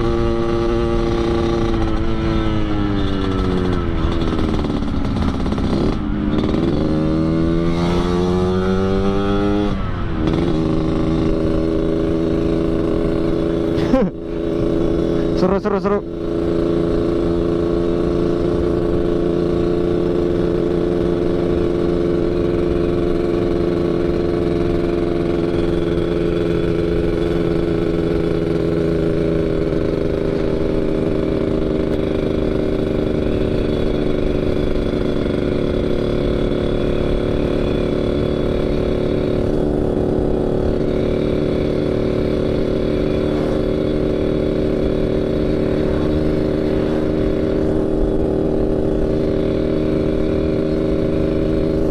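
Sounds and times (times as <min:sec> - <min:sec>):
motorcycle engine snoring growl: 0:00.0 - 0:51.9.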